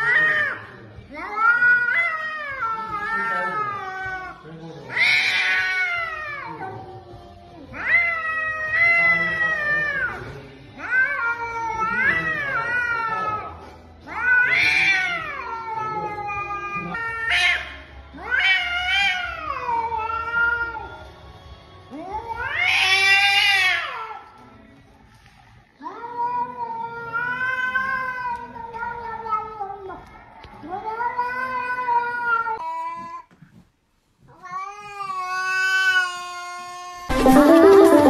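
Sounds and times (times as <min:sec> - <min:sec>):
cats yowling: 0:00.0 - 0:21.0, 0:21.9 - 0:24.3, 0:25.8 - 0:33.1, 0:34.4 - 0:37.1.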